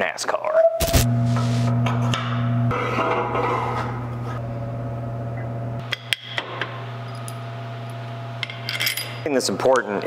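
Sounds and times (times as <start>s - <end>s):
low hum: 0.8s - 9.2s.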